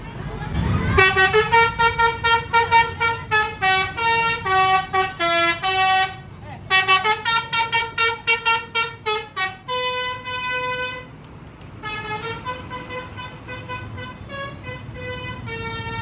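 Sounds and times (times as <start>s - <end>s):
low engine and traffic rumble: 0.0s - 16.0s
bus musical horn playing a tune: 0.1s - 11.2s, 11.8s - 16.0s.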